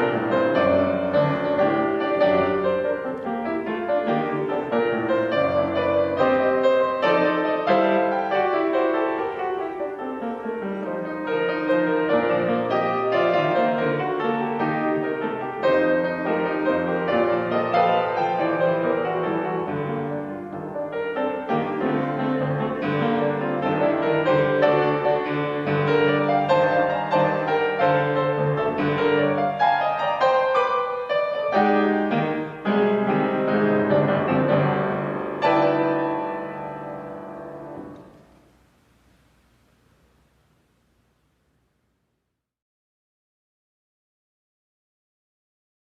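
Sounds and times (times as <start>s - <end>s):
piano music: 0.0s - 38.6s.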